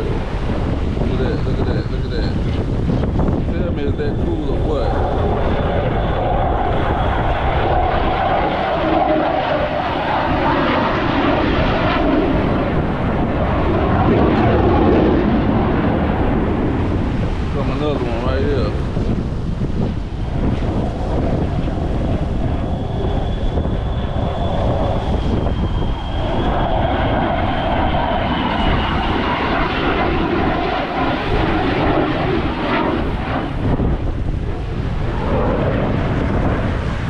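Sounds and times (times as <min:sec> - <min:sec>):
fighter jet flying over: 0:00.0 - 0:37.0.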